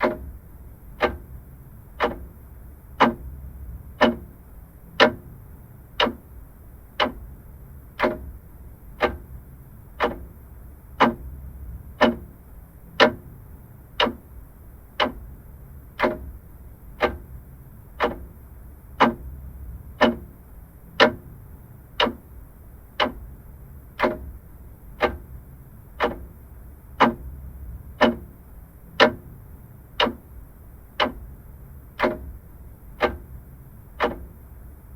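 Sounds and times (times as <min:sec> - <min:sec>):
clock ticking: 0:00.0 - 0:06.4, 0:07.0 - 0:14.4, 0:15.0 - 0:22.4, 0:23.0 - 0:34.6.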